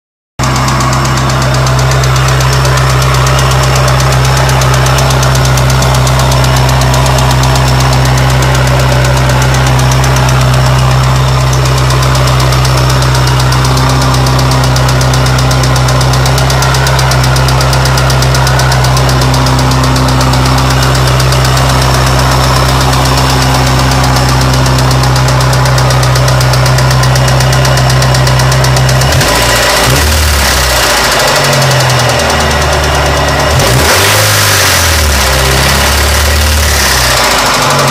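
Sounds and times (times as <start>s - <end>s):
car engine idling with clacking: 0.4s - 37.9s.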